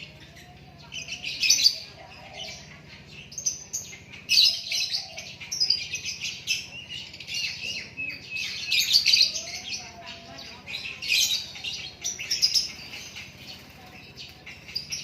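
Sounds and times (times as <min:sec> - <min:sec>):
songbird chirping and trilling: 0:00.0 - 0:15.0.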